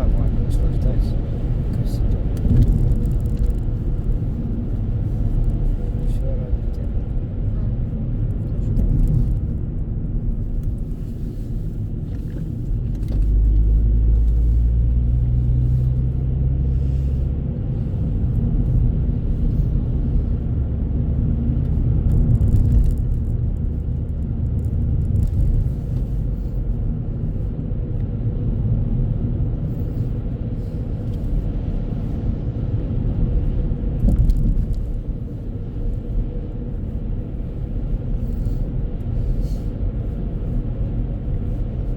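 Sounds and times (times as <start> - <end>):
vehicle low rumble: 0.0 - 41.9.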